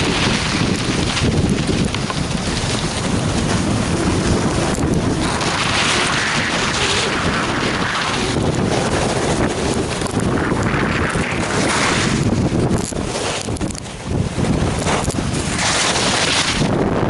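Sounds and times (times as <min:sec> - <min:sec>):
skis hissing over snow: 0:00.0 - 0:12.4, 0:14.9 - 0:16.7
wind buffeting microphone: 0:00.0 - 0:17.0.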